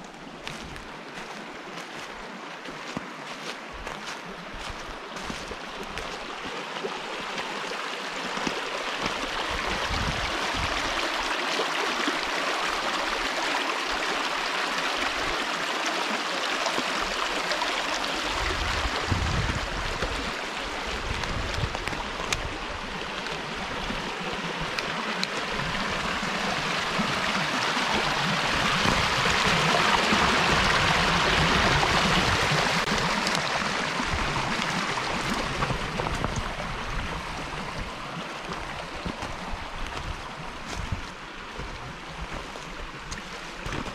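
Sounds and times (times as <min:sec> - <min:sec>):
stream babbling over stones: 0:00.0 - 0:43.9.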